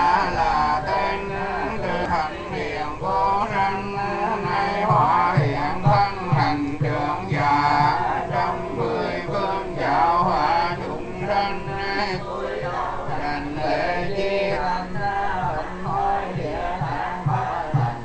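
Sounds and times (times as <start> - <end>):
melodic chanting: 0.0 - 18.0
regular low beat: 0.0 - 18.0.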